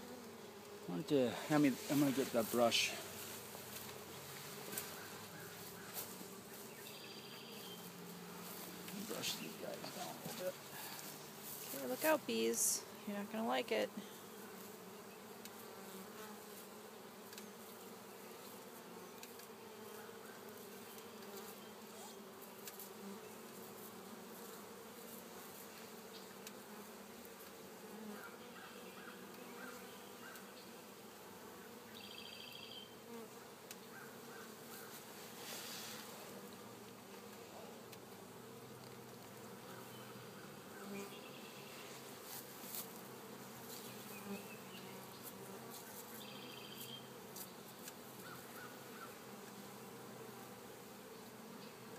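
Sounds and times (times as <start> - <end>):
bees buzzing: 0.0 - 51.9.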